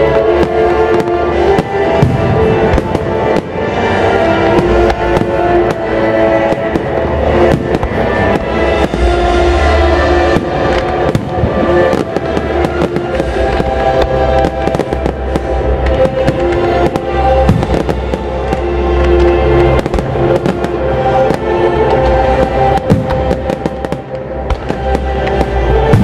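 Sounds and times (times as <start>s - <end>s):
fireworks bangs and crackles: 0.0s - 26.0s
loud music: 0.0s - 26.0s.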